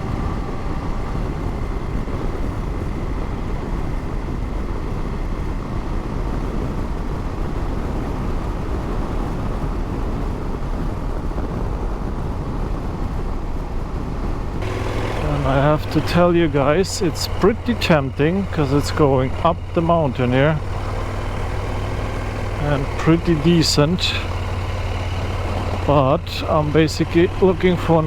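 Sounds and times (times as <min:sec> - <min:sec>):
motorcycle engine: 0:00.0 - 0:09.4, 0:14.5 - 0:28.0
rushing wind: 0:00.0 - 0:28.0.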